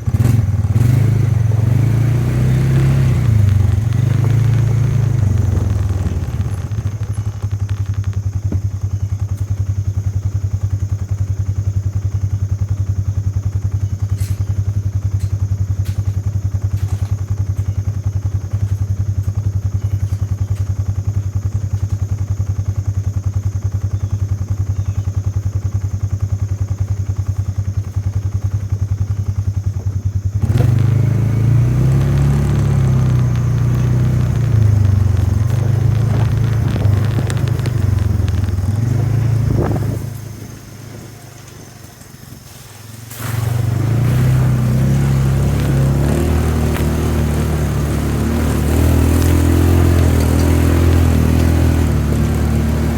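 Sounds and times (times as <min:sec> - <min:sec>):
vehicle engine humming: 0:00.0 - 0:52.9.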